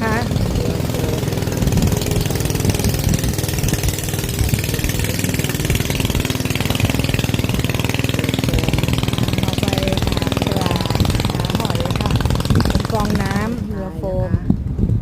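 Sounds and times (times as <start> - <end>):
small boat engine chugging: 0.0 - 15.0.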